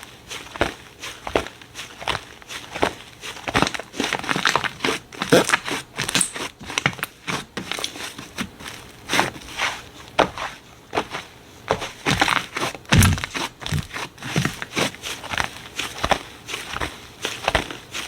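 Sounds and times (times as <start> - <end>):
slime squishing: 0.2 - 18.0.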